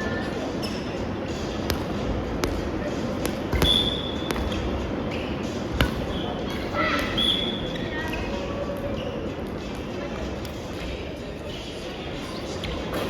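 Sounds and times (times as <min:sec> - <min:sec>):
hall background noise: 0:00.0 - 0:13.0.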